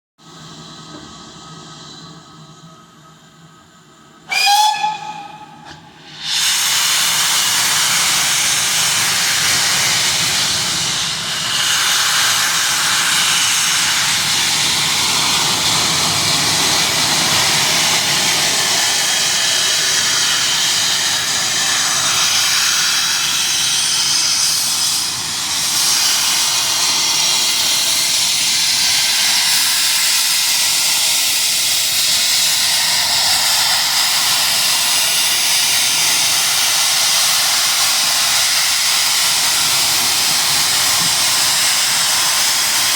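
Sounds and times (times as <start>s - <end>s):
steam locomotive hissing: 0.2s - 42.9s.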